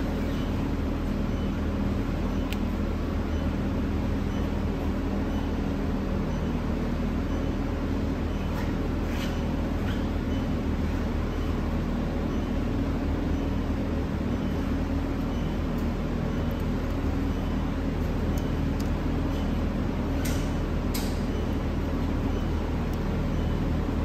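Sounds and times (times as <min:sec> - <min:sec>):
machinery humming: 0:00.0 - 0:24.0.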